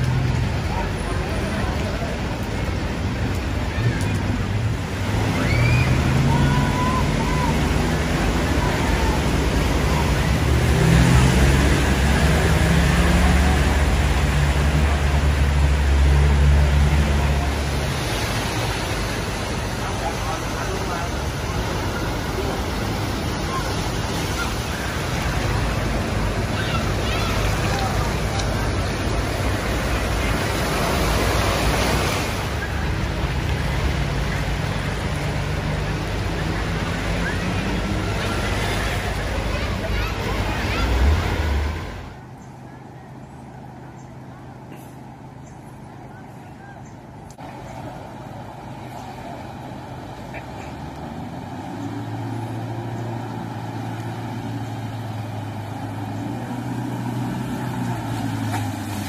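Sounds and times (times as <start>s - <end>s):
wash of water: 0.0s - 42.4s, 47.1s - 59.0s
floodwater rushing and sloshing: 0.0s - 59.0s
vehicle engines running: 0.0s - 59.0s.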